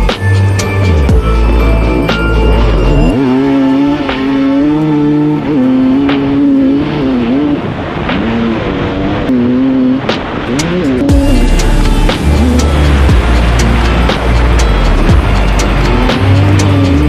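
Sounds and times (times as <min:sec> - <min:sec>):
two-stroke motocross engine revving: 0:01.8 - 0:17.0.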